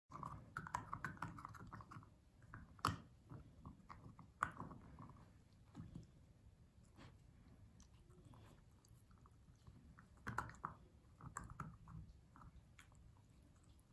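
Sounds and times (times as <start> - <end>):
puppy chewing: 0.1 - 13.9.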